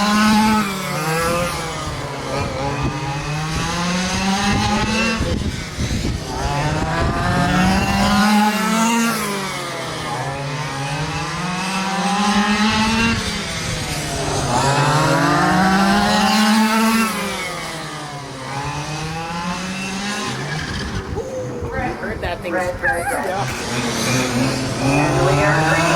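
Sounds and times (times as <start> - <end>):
rc truck engines revving: 0.0 - 25.9.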